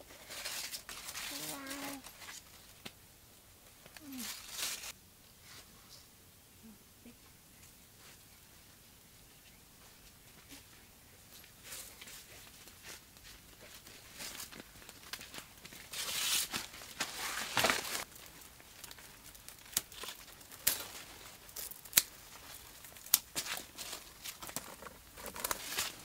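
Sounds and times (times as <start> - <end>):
leaves and vines rustling: 0.0 - 3.0, 3.6 - 5.9, 7.5 - 26.0.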